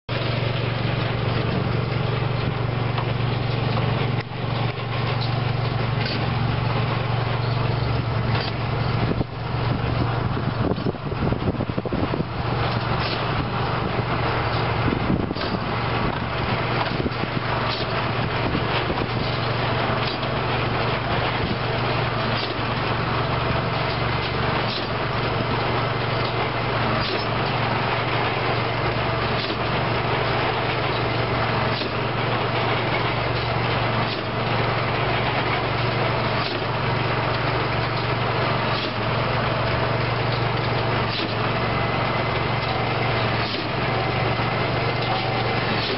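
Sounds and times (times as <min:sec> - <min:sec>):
tractor engine drone: 0:00.0 - 0:45.9.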